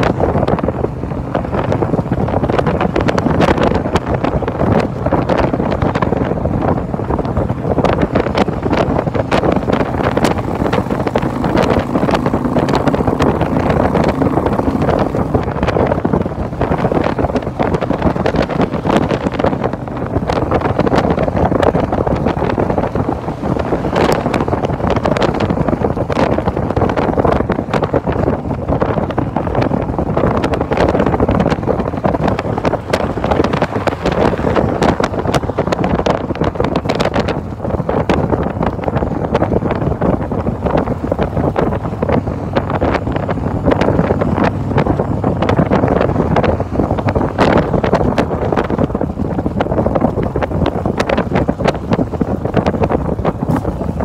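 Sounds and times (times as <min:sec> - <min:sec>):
motorcycle engine: 0:00.0 - 0:54.0
road noise: 0:00.0 - 0:54.0
wind buffeting microphone: 0:00.0 - 0:54.0.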